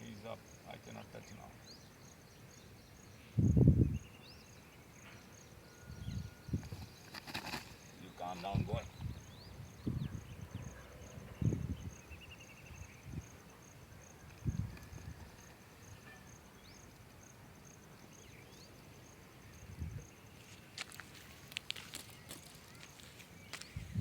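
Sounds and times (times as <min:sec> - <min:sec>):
insect chirping: 0:00.0 - 0:24.0.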